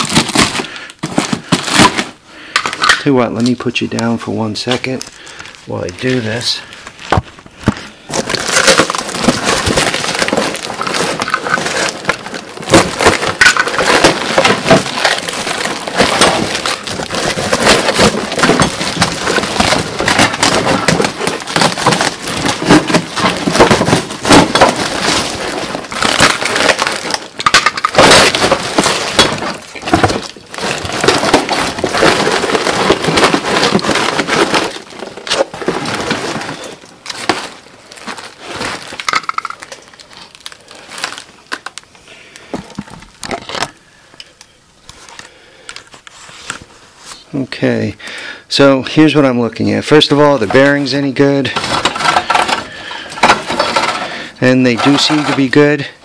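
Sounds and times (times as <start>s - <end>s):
cardboard and plastic wrapping tearing: 0.0s - 43.8s, 49.9s - 56.0s.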